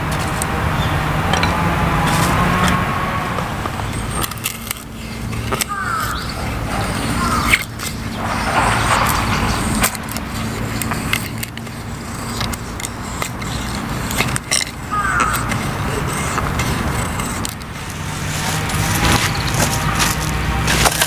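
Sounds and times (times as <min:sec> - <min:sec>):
distant road traffic hum: 0:00.0 - 0:21.0
knife splitting kindling sticks: 0:03.6 - 0:21.0.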